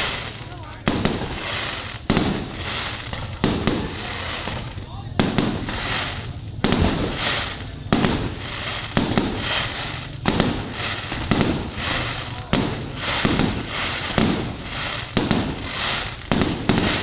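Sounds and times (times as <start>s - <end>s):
fireworks bangs: 0.0s - 17.0s
fireworks crackling hiss: 0.0s - 17.0s.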